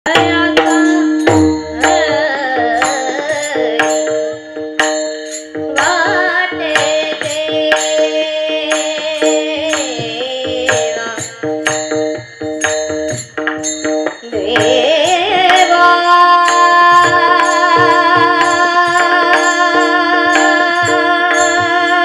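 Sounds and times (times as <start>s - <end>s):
drum accompaniment: 0.0s - 22.0s
woman singing into a microphone: 0.1s - 12.4s, 14.0s - 22.0s
hand cymbals struck in a beat: 0.1s - 22.0s
held instrumental tones: 0.1s - 22.0s.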